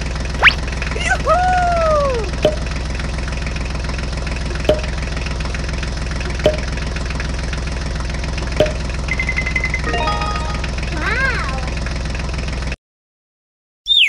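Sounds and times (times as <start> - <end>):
diesel tractor engine idling: 0.0 - 12.8.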